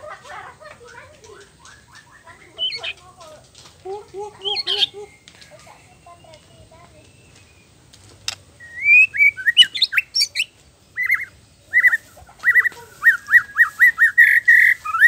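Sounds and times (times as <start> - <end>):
songbird singing whistles: 1.4 - 3.0, 4.4 - 15.0.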